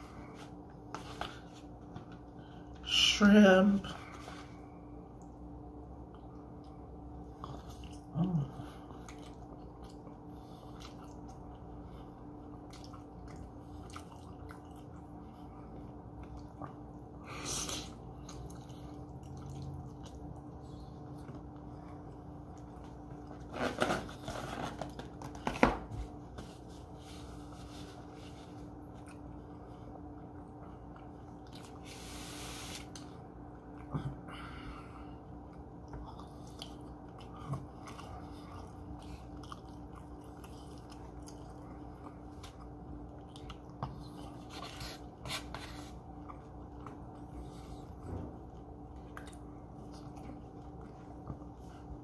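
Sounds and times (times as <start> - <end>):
faint steady hum: 0.0 - 52.0
person chewing: 6.0 - 25.5, 26.4 - 52.0.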